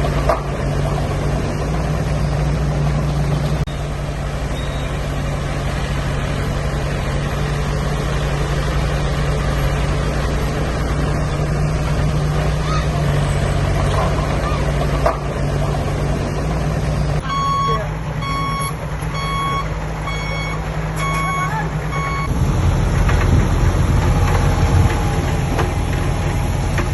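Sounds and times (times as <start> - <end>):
diesel engine humming: 0.0 - 26.9.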